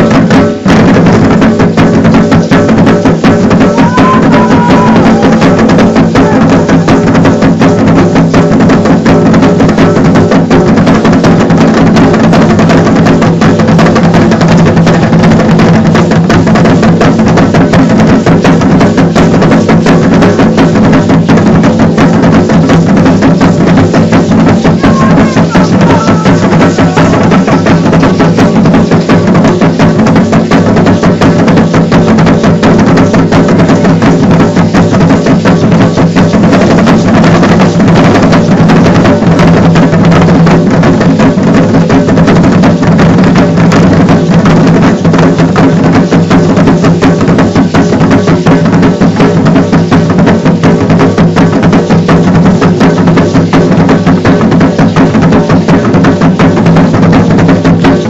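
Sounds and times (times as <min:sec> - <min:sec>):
drums beating driving rhythm: 0:00.0 - 0:58.0.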